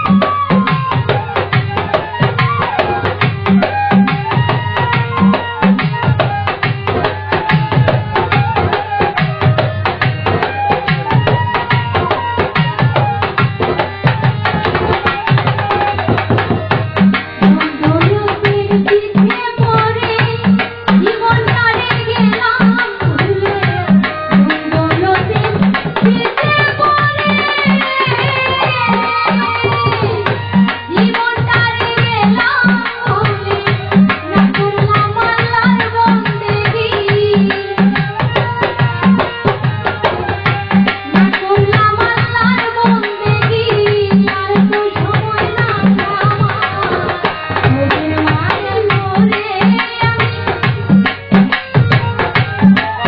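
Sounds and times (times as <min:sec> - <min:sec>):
folk melody instruments: 0:00.0 - 0:53.0
tabla fast rhythm: 0:00.0 - 0:53.0.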